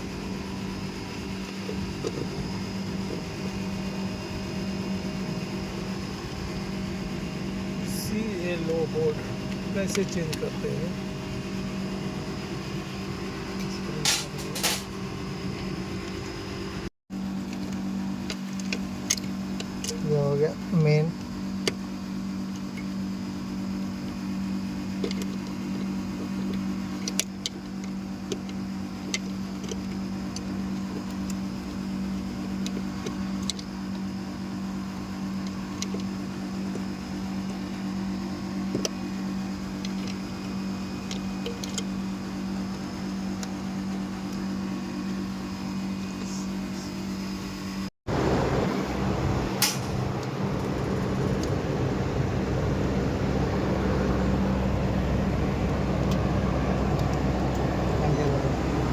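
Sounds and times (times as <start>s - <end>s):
hvac unit humming: 0.0s - 58.9s.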